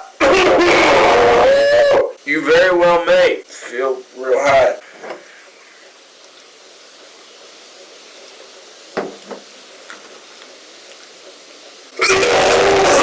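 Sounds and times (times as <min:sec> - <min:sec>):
room tone hiss: 0:00.0 - 0:13.0.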